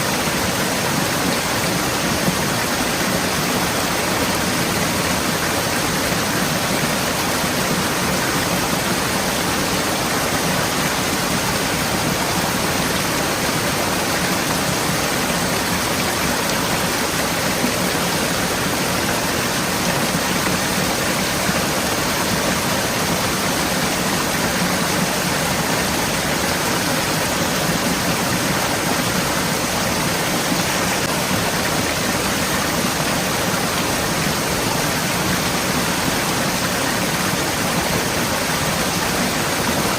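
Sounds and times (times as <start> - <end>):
stream flowing and splashing: 0.0 - 39.9.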